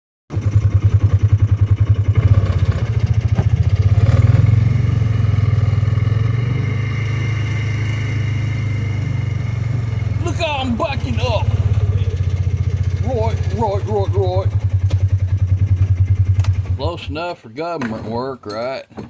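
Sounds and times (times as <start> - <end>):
vehicle engine running: 0.3 - 17.4.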